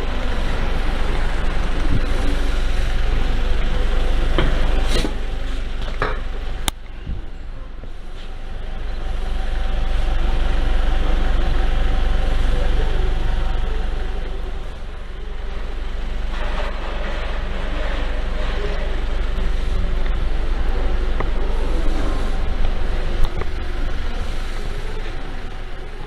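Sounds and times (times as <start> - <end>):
car engine exhaust rumble: 0.0 - 26.0.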